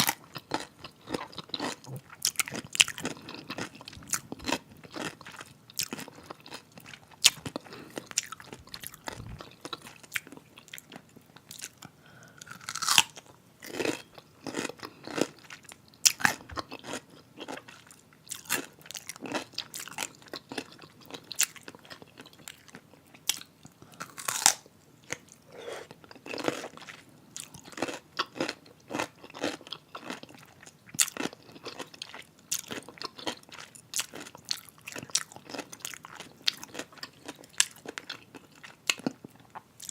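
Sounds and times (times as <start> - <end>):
pickle being bitten and chewed: 0.0 - 39.9.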